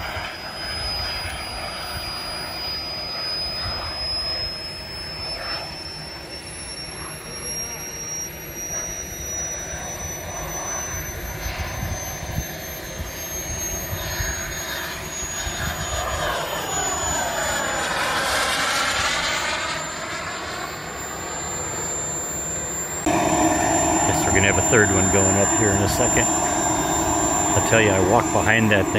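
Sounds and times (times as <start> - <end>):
model jet turbine flying past: 0.0 - 28.9.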